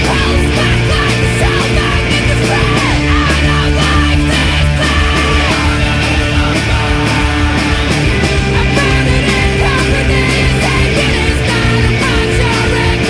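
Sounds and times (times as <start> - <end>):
rock song with electric guitars: 0.0 - 13.0.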